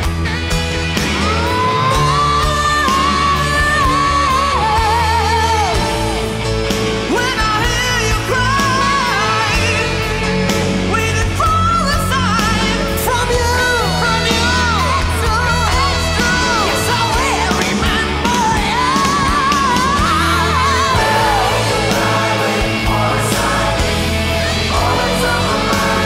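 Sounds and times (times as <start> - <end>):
bent lead guitar line: 0.0 - 26.0
rock band playing: 0.0 - 26.0.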